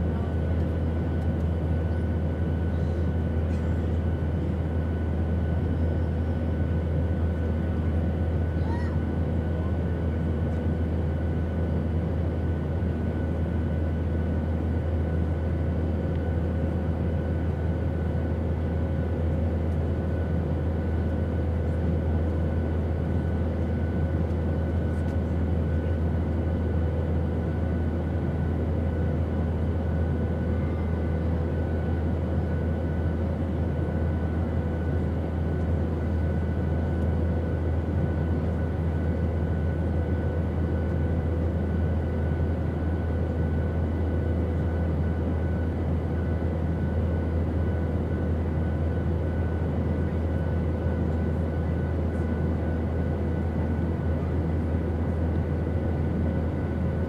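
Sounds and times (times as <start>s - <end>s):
airplane drone: 0.0s - 57.0s.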